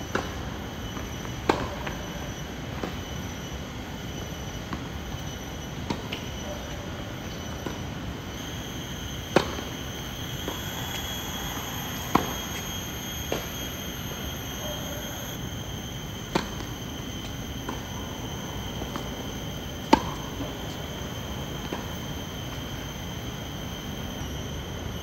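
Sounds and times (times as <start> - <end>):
steady high whine: 0.0 - 25.0.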